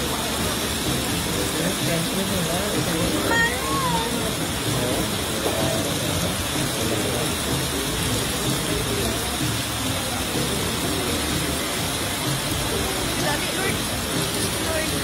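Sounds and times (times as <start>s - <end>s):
fast-flowing floodwater rushing: 0.0s - 15.0s.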